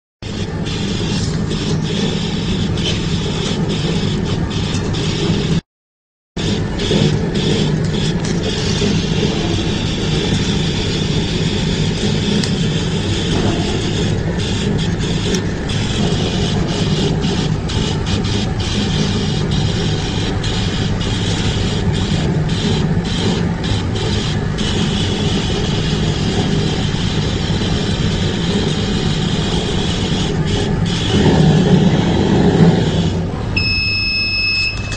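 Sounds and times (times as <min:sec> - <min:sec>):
high steady whine: 0:00.2 - 0:05.6, 0:06.4 - 0:34.9
machine running: 0:00.2 - 0:05.6, 0:06.4 - 0:33.9.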